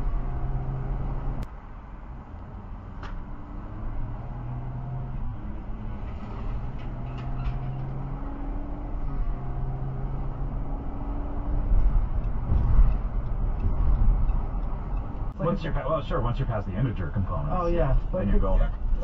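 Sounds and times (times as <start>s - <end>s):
car engine hum: 0.0s - 19.0s
low road rumble: 0.0s - 19.0s.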